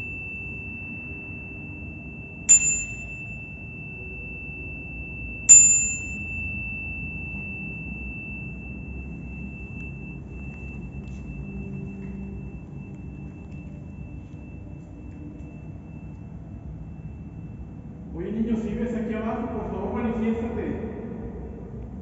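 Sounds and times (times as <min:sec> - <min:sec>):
sharp ding: 0:00.0 - 0:17.8
high-pitched tone: 0:00.0 - 0:18.1.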